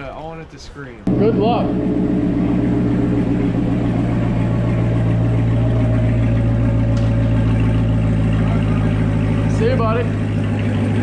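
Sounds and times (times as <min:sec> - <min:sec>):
car engine idling: 0:01.1 - 0:11.0.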